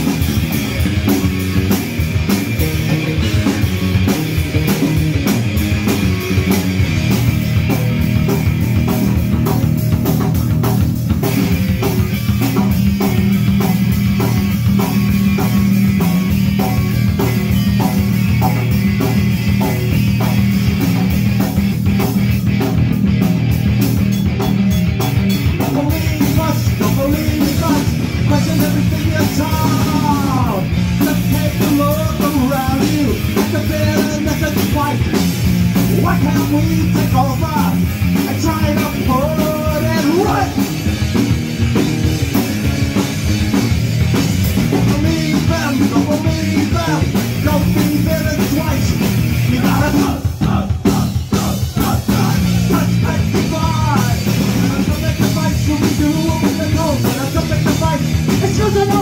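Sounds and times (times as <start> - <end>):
punk rock band playing loud: 0.0 - 59.0.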